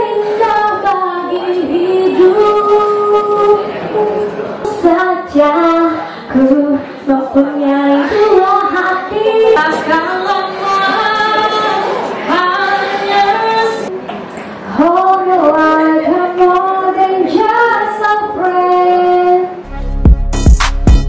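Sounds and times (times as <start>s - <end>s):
woman singing unaccompanied: 0.0s - 13.9s, 14.7s - 19.6s.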